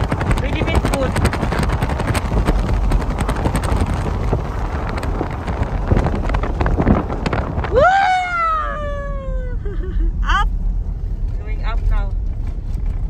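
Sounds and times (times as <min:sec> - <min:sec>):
car driving rumble: 0:00.0 - 0:13.0
wind buffeting microphone: 0:00.0 - 0:13.0.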